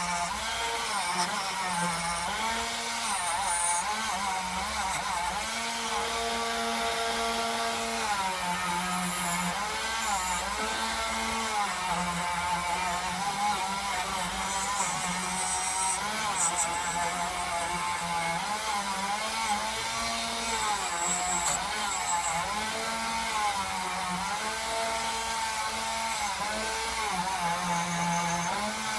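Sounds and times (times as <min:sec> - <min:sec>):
electric power tool motor running: 0:00.0 - 0:28.9.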